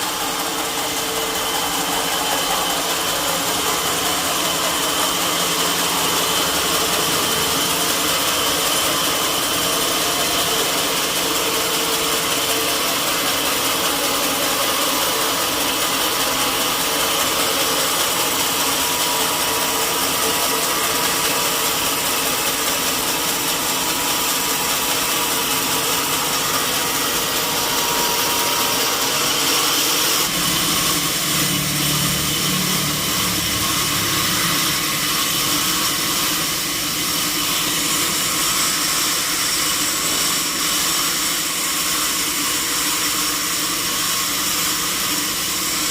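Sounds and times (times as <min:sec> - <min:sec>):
sawmill saw running: 0:00.0 - 0:45.9.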